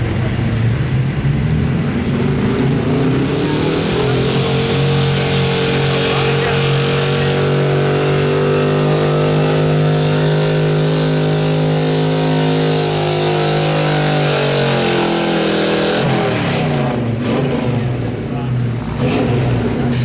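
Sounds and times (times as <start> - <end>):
truck engine revving high: 0.0 - 20.0.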